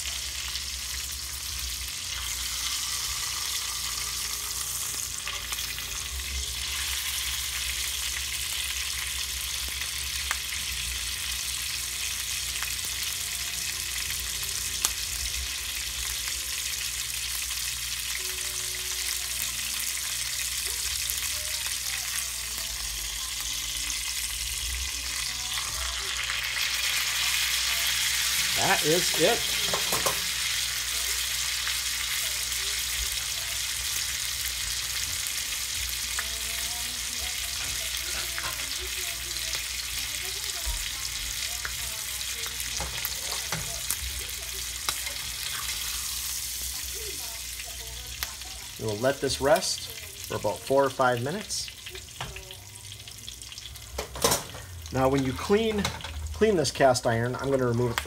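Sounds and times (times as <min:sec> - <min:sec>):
steak sizzling in oil: 0:00.0 - 0:58.0.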